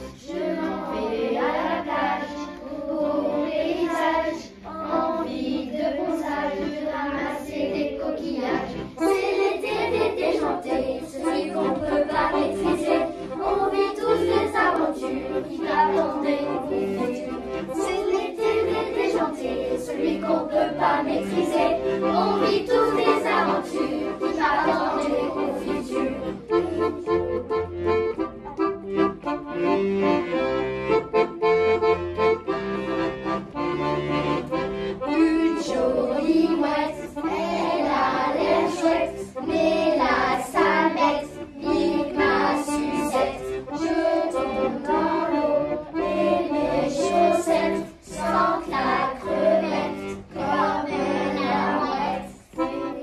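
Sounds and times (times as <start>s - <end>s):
children's choir singing: 0.0s - 53.0s
instrumental accompaniment: 0.0s - 53.0s.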